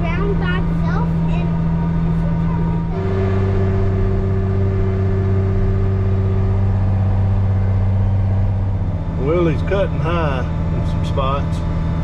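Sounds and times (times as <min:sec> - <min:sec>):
steady whine: 0:00.0 - 0:12.0
tractor engine running: 0:00.0 - 0:12.0.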